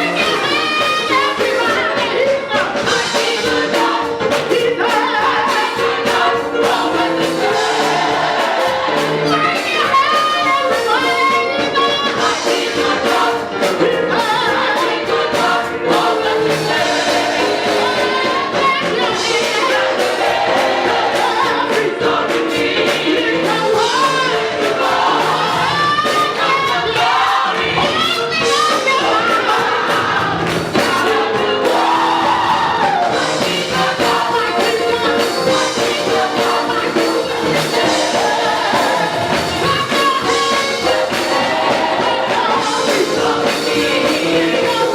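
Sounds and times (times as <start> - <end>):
gospel singing over a band: 0.0 - 44.9.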